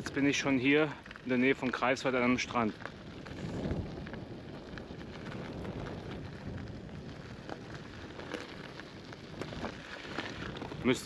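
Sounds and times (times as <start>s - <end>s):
faint crackles: 0.0s - 11.0s
wind buffeting microphone: 0.0s - 11.0s.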